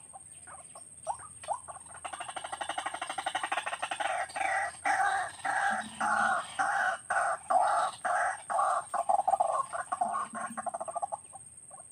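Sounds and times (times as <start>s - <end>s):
waterhen calling: 0.0s - 11.9s.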